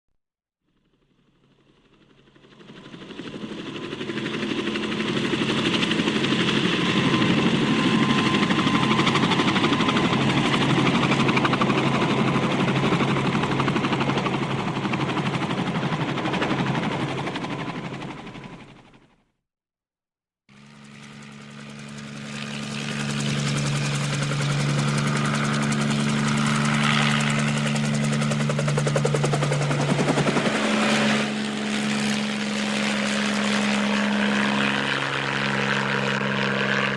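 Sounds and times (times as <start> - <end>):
helicopter rotor chop: 0.9 - 19.2, 20.5 - 36.9.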